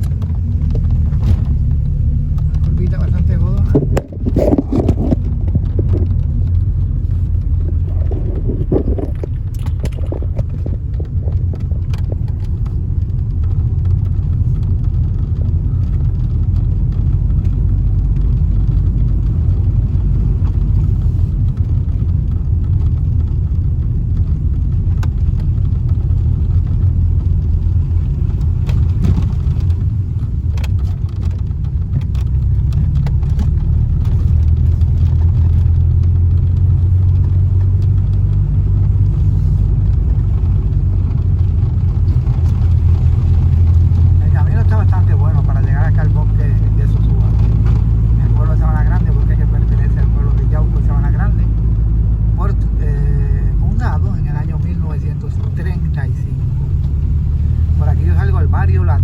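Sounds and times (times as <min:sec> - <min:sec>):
car engine and road rumble: 0:00.0 - 0:59.0
faint clicks and rattles: 0:00.0 - 0:59.0.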